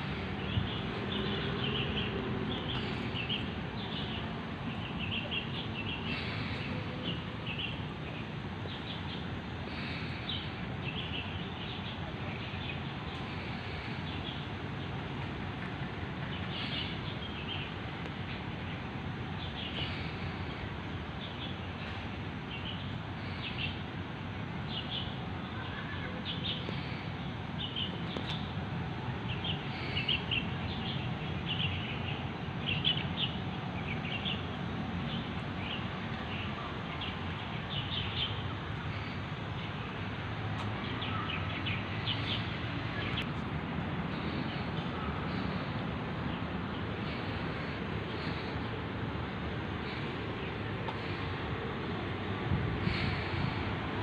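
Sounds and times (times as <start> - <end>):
small birds chirping: 0.0 - 23.9, 24.6 - 43.4, 44.1 - 52.0, 52.8 - 54.0
low traffic rumble: 0.0 - 54.0.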